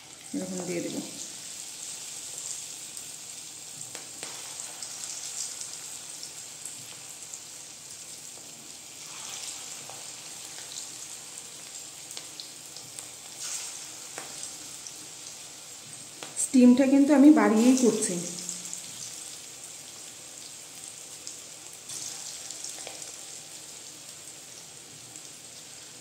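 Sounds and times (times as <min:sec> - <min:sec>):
batter deep-frying in oil: 0:00.0 - 0:26.0.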